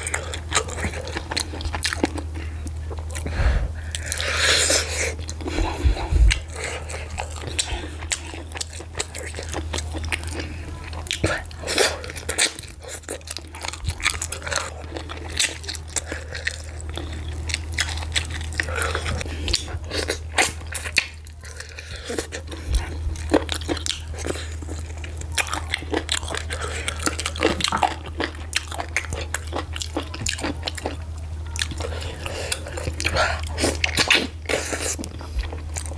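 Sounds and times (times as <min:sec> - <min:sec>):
steady low hum: 0:00.0 - 0:35.9
wet chewing and mouth clicks: 0:00.0 - 0:35.9.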